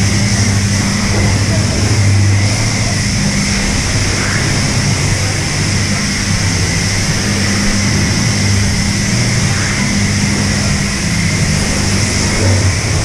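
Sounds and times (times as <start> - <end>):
low pump hum: 0.0 - 13.0
pressure washer spraying water: 0.0 - 13.0.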